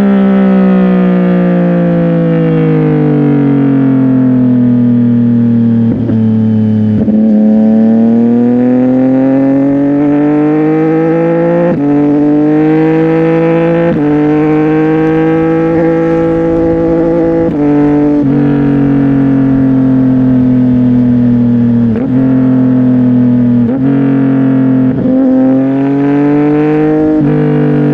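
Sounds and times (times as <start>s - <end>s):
motorcycle engine revving through gears: 0.0s - 27.9s.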